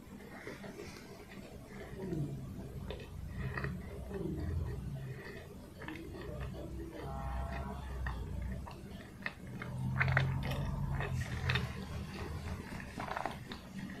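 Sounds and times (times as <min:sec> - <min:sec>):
mouth-closed chewing: 0:00.0 - 0:14.0.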